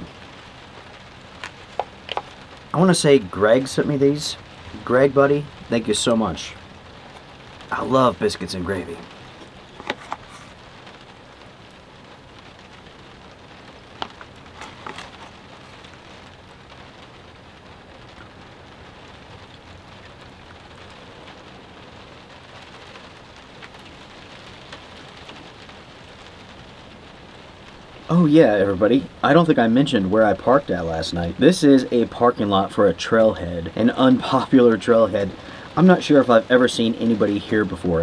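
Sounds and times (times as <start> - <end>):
rain on a camper shell: 0.0 - 38.0.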